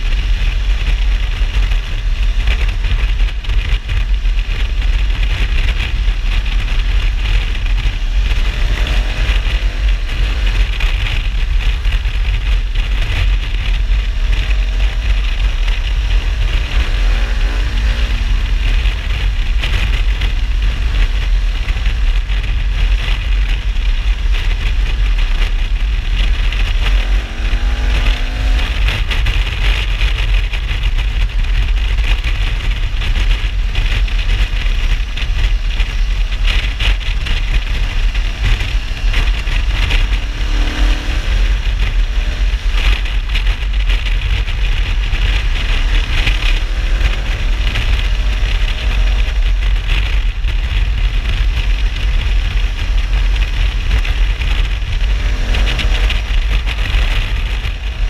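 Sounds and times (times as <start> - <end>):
motorcycle engine: 0.0 - 58.0
wind rush on microphone: 0.0 - 58.0.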